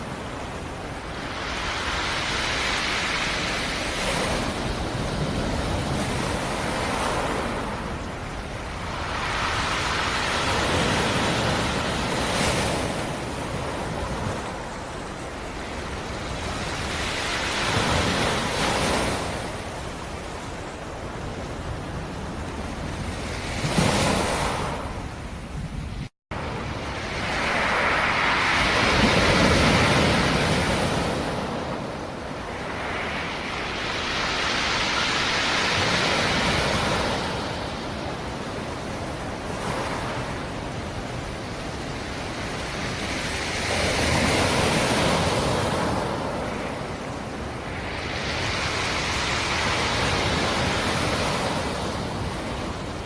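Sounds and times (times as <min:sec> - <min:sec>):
waves breaking on shore: 0:00.0 - 0:53.0.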